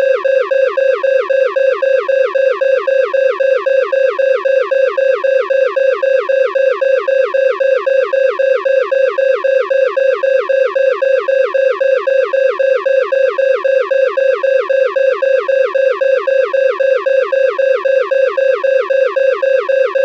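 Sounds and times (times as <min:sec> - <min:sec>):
electronic alarm beeps falling in pitch: 0:00.0 - 0:20.0.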